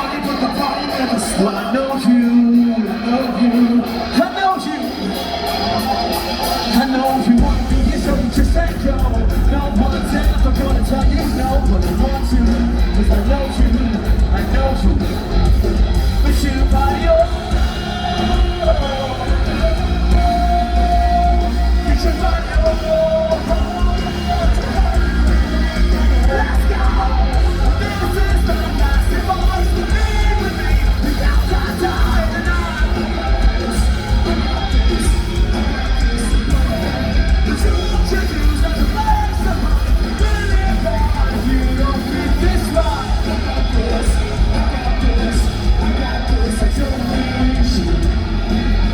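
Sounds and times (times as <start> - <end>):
loud live band music: 0.0 - 48.9
yelled and sung vocals: 0.0 - 48.9.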